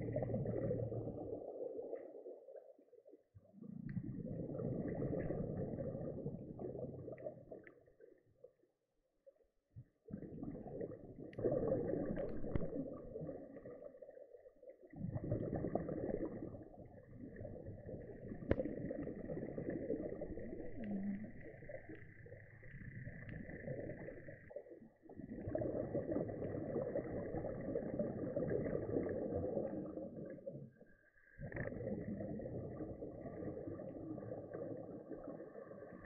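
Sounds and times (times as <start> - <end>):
underwater bubbles rumbling: 0.0 - 8.6, 9.2 - 36.0.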